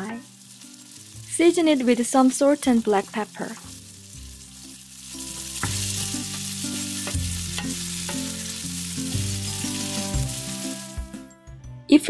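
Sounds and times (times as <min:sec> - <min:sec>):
food sizzling in a pan: 0:00.0 - 0:11.3
music with steady notes: 0:00.0 - 0:12.0.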